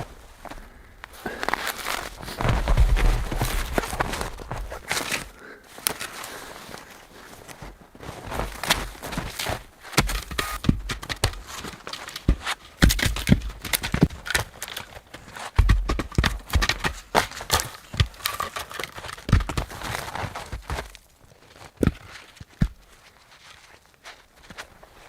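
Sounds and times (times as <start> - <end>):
footsteps crunching: 0.0 - 12.8, 17.1 - 25.0.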